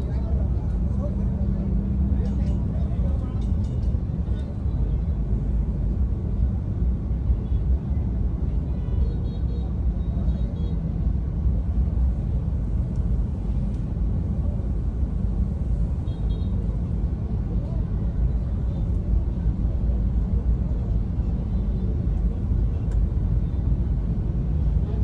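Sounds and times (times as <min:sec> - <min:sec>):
car rumbling in slow traffic: 0:00.0 - 0:25.0.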